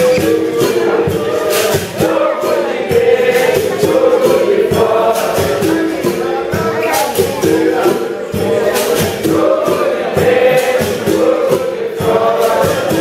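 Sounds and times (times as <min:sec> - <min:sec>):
berimbaus and pandeiro rhythm: 0:00.0 - 0:13.0
group singing chorus: 0:00.0 - 0:13.0.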